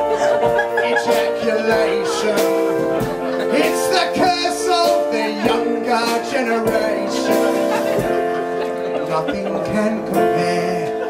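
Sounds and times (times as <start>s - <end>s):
electric keyboard chords: 0.0s - 11.0s
man singing into microphone: 0.2s - 8.1s, 9.0s - 11.0s.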